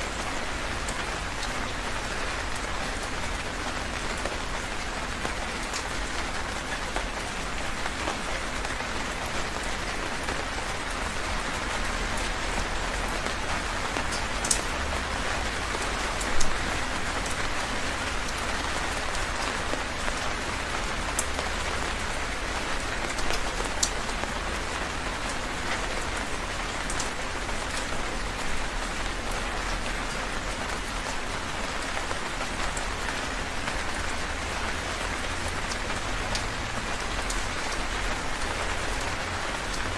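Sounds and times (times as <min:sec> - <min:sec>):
heavy rain falling: 0:00.0 - 0:39.9
raindrops clicking close by: 0:00.0 - 0:39.9.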